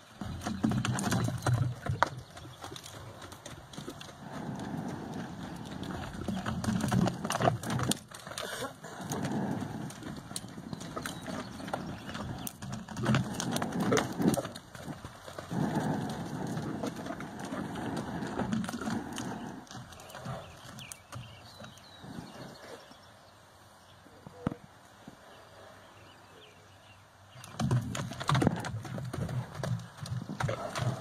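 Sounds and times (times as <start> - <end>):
horse hoofbeats on dirt: 0.0 - 23.1, 27.3 - 31.0.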